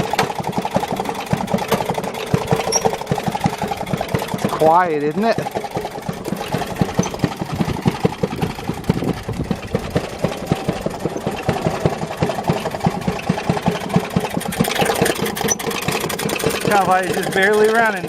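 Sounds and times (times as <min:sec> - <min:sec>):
muffled two-stroke engine running: 0:00.0 - 0:18.0.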